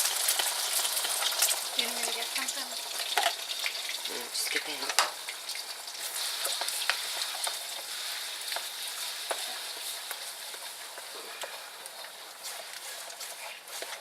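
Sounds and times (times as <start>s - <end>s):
eggs sizzling in oil: 0.0s - 14.0s.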